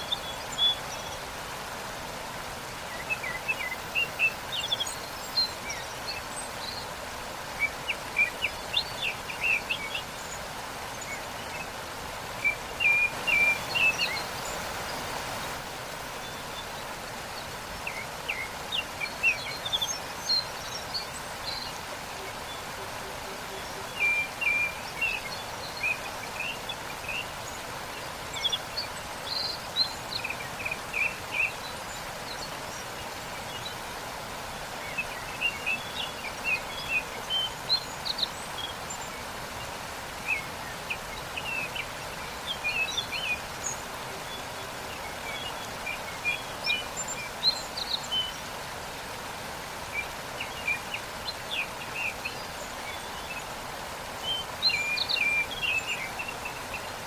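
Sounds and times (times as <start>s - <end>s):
songbirds chirping: 0.0s - 57.0s
waterfall rushing: 0.0s - 57.0s.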